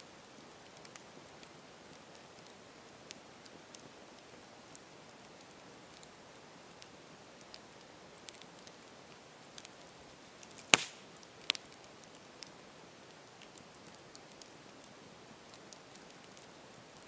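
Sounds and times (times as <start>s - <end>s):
campfire hissing and crackling: 0.0s - 17.0s
burning wood popping: 0.3s - 17.0s.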